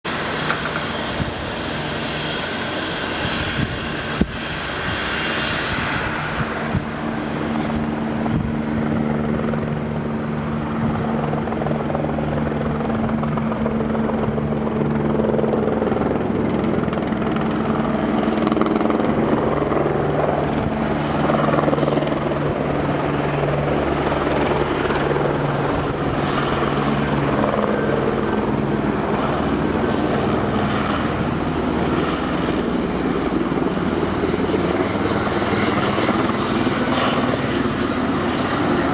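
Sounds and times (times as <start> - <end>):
helicopter drone and whine: 0.0 - 38.9.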